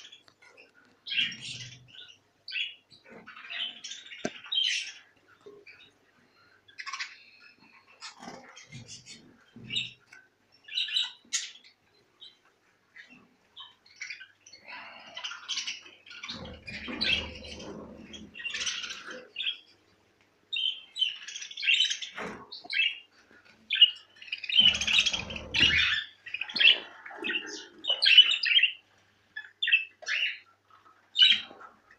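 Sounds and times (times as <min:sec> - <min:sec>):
budgerigars chirping and squawking: 0:00.0 - 0:06.0, 0:06.7 - 0:19.7, 0:20.5 - 0:31.9.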